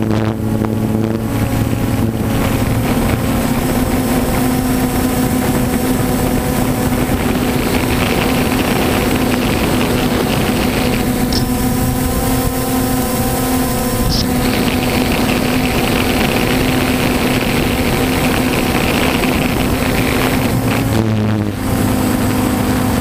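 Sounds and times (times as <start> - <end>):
drone propellers buzzing: 0.0 - 23.0.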